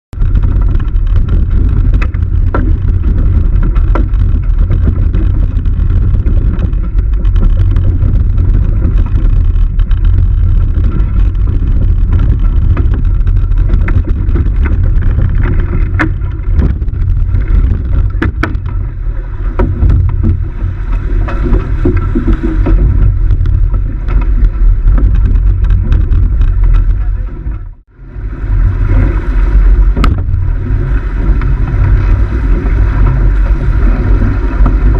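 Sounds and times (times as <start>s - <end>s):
knocks and clicks: 0.1s - 27.9s, 28.9s - 34.9s
water noise: 0.1s - 34.9s
wind buffeting microphone: 0.1s - 34.9s.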